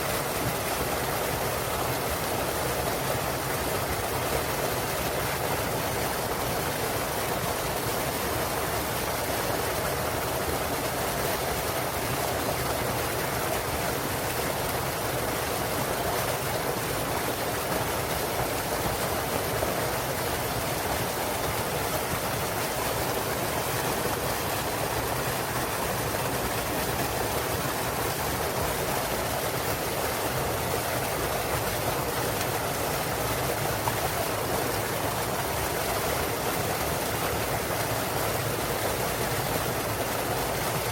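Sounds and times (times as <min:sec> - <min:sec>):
water splashing over rocks: 0:00.0 - 0:40.9.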